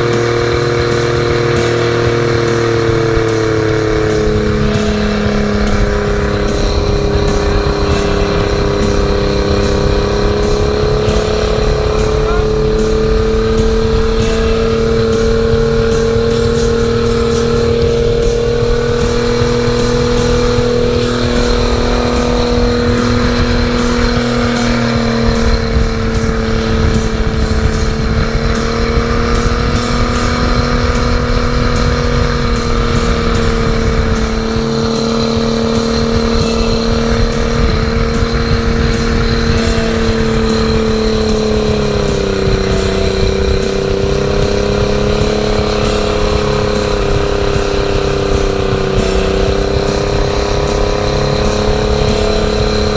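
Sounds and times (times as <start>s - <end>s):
outboard motor running: 0.0s - 52.9s
rough rushing noise: 0.0s - 52.9s.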